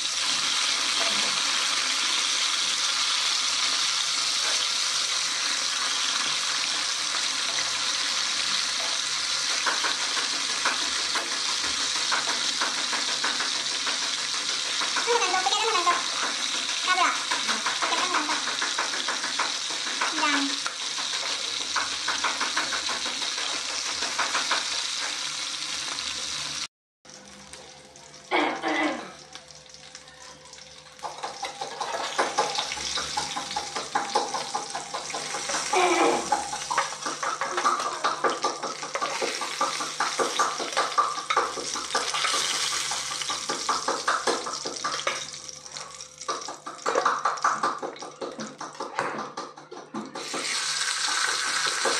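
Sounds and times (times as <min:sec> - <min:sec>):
fish sizzling in hot oil: 0:00.0 - 0:28.3, 0:29.1 - 0:47.5, 0:50.2 - 0:51.9.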